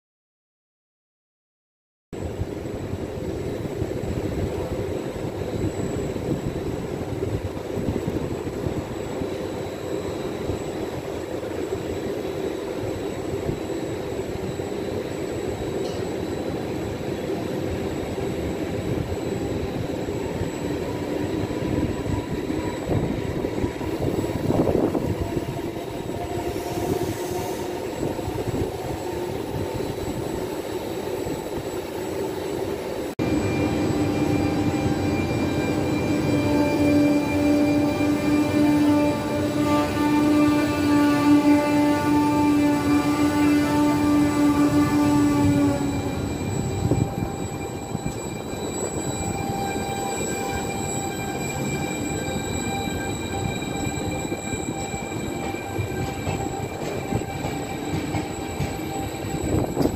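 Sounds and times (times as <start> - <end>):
train wheels rumbling on rails: 2.2 - 59.9.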